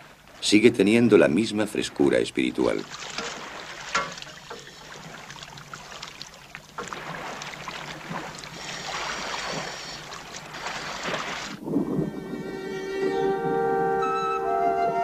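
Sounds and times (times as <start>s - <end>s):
water splashing and sloshing: 0.0s - 13.7s.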